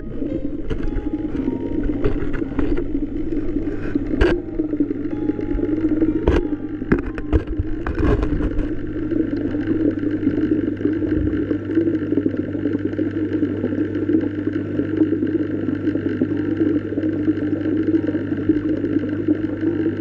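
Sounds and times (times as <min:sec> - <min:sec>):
underwater low drone: 0:00.0 - 0:20.0.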